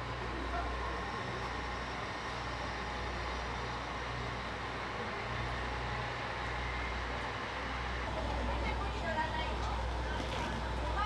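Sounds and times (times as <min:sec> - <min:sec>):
faint steady whine: 0:00.0 - 0:11.0
steam locomotive steady noise: 0:00.0 - 0:11.0.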